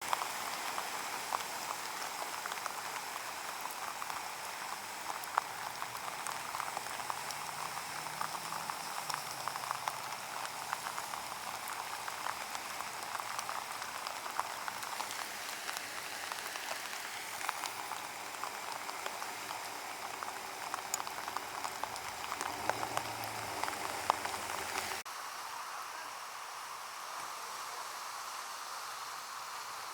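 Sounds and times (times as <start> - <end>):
rain on standing water: 0.0 - 29.9.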